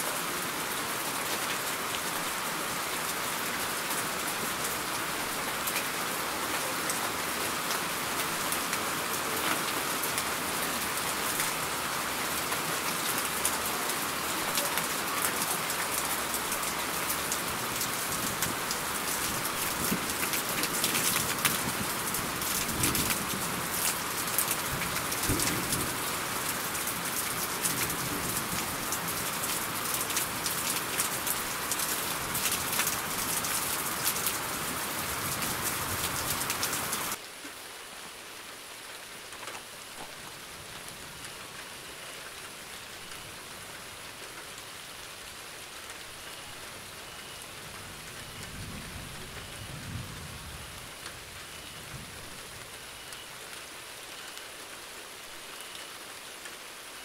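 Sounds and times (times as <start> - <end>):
heavy rain: 0.0 - 57.0
light rain: 0.0 - 57.0.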